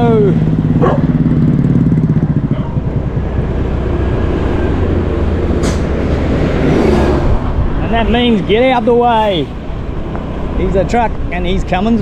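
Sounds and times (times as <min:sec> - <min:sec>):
road and wind noise: 0:00.0 - 0:12.0
vehicle engine humming: 0:00.0 - 0:12.0.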